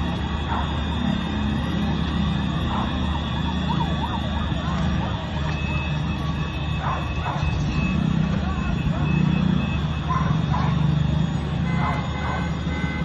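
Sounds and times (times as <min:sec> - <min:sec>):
emergency vehicle siren wavering: 0:00.0 - 0:13.0
street and vehicle noise: 0:00.0 - 0:13.0.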